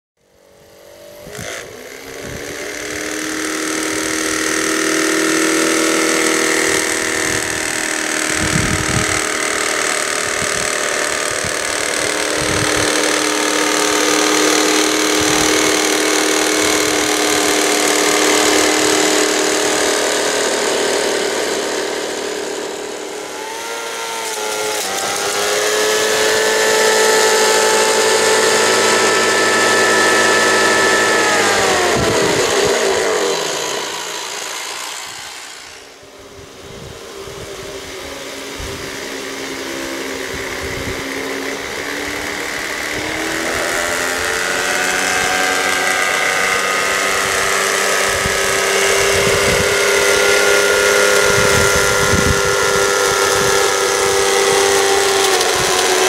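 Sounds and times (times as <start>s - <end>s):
small electric motors whining: 0.2s - 56.0s.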